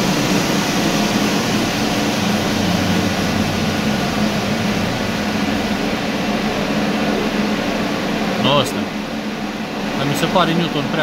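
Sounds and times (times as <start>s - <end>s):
car engine idling: 0.0s - 11.0s
cooling fan blowing: 0.0s - 11.0s.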